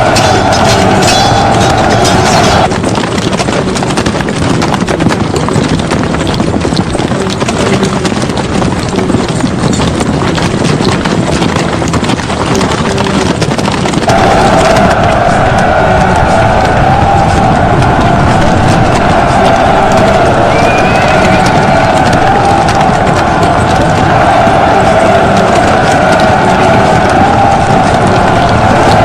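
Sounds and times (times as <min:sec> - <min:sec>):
horses galloping: 0:00.0 - 0:29.0.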